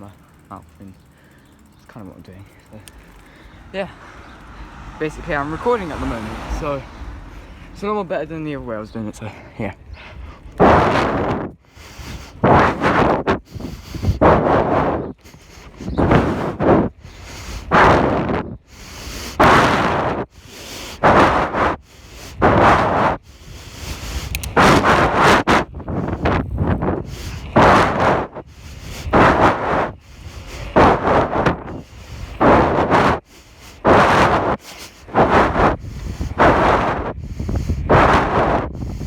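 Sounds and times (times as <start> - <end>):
heavy breathing into microphone: 2.5 - 8.0, 9.3 - 19.4, 20.1 - 39.0
wind noise: 2.6 - 39.0.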